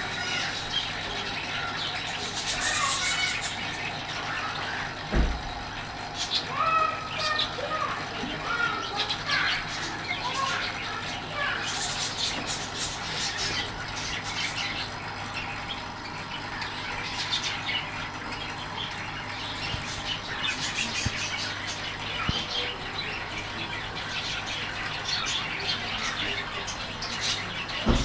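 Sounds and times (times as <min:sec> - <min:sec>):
aquarium filter humming: 0:00.0 - 0:28.0
birds chirping: 0:00.0 - 0:28.0.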